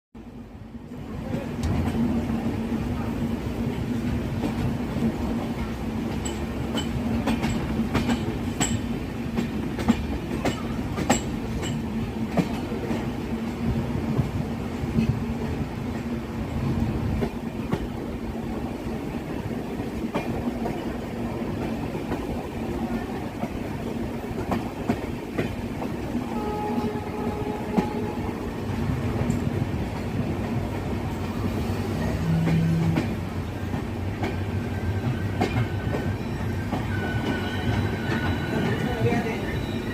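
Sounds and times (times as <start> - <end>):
train rumbling along track: 0.2 - 39.9.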